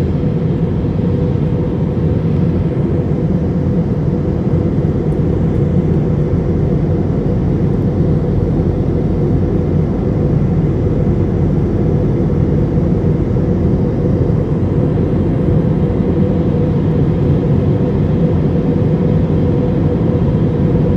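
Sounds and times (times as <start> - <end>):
jet engines and airflow in cabin: 0.0 - 20.9.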